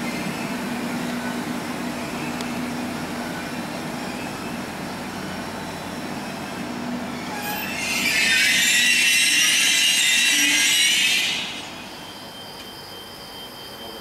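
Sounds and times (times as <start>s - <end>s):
low railway rumble: 0.0s - 14.0s.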